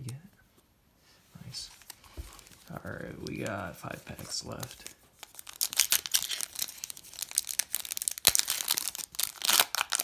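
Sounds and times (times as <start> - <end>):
foil wrapper crinkling and tearing: 1.8 - 10.0.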